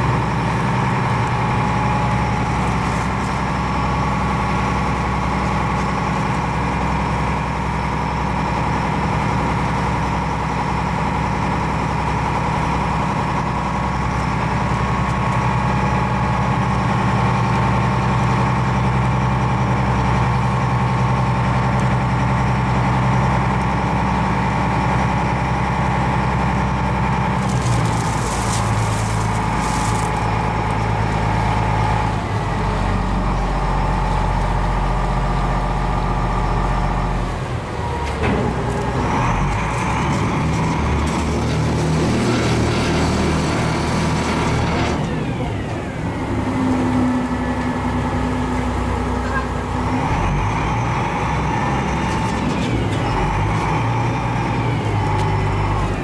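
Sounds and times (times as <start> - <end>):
ferry diesel engine running: 0.0 - 56.0.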